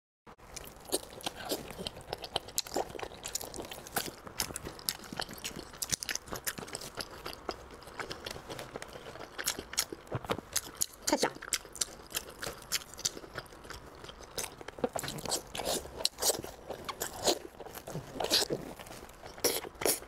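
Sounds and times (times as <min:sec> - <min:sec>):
person chewing and lip-smacking: 0:00.5 - 0:20.0.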